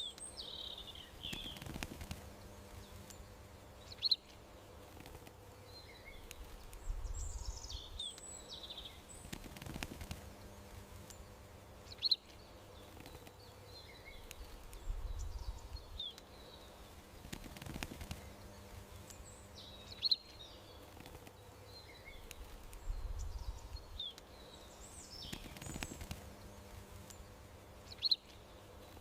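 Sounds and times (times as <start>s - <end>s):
faint background hum: 0.0s - 29.0s
small birds chirping: 0.0s - 29.0s.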